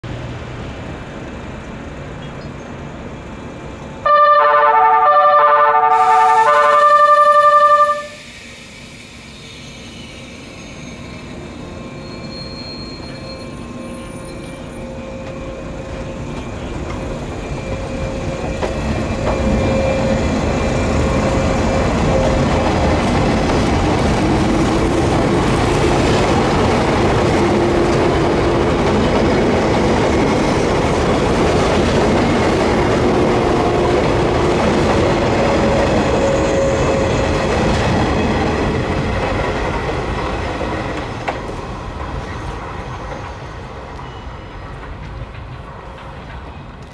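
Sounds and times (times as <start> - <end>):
electric train passing: 0.0 - 46.9.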